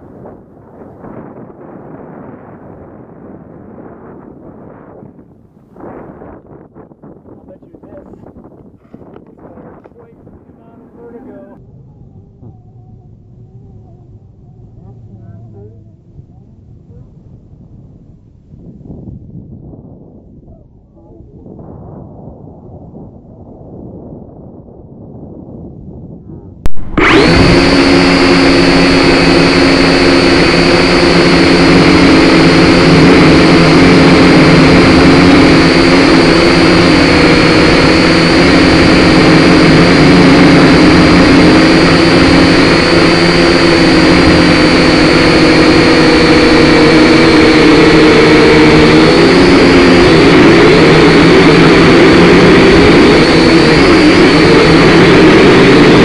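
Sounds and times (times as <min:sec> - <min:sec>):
drone propellers buzzing: 0:00.0 - 0:22.1, 0:26.5 - 0:56.0.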